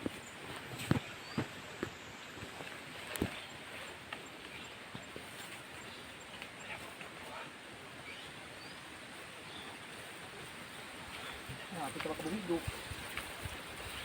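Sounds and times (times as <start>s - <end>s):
rustles and clicks: 0.0s - 14.0s.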